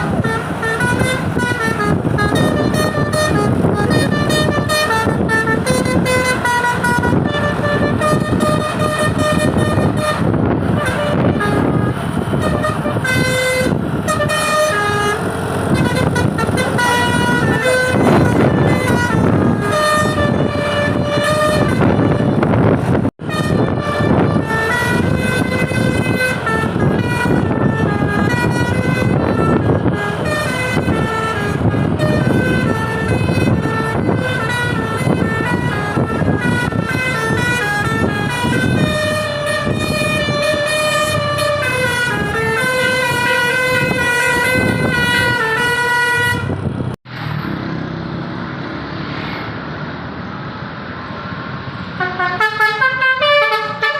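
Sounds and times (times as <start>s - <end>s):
bus horn playing a tune: 0.0s - 47.0s, 52.0s - 53.9s
engine and street noise: 0.0s - 53.9s.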